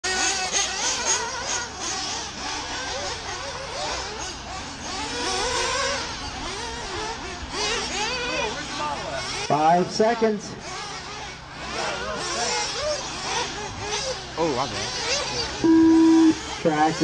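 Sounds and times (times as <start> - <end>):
rc car engines revving: 0.0 - 17.0.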